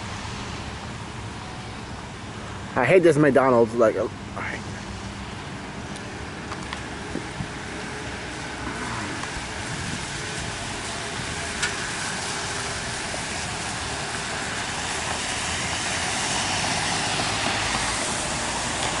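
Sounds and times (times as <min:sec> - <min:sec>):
tyres hissing on wet road: 0:00.0 - 0:19.0.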